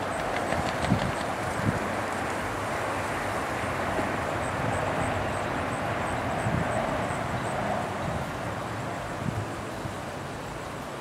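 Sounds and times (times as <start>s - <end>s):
distant aircraft engine drone: 0.0s - 11.0s.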